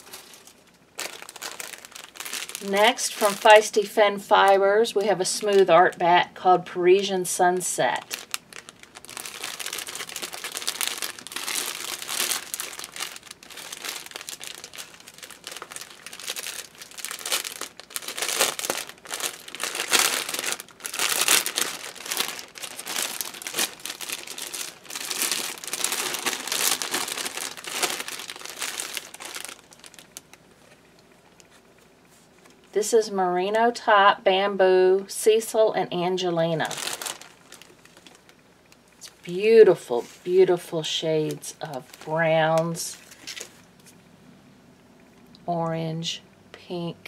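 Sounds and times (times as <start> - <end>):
plastic bag crinkling: 0.0 - 6.1, 7.5 - 31.6, 36.5 - 44.0.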